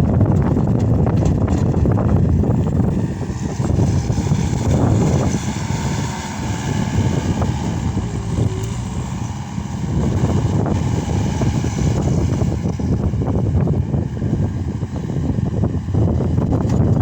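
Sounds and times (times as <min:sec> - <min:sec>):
skid steer diesel engine running: 0:00.0 - 0:17.0
wind noise on microphone: 0:00.0 - 0:17.0.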